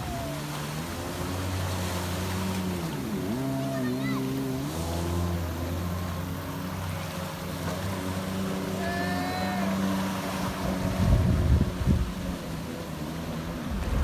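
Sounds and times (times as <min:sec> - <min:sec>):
jet ski engine running: 0:00.0 - 0:14.0
wind and water noise: 0:00.0 - 0:14.0.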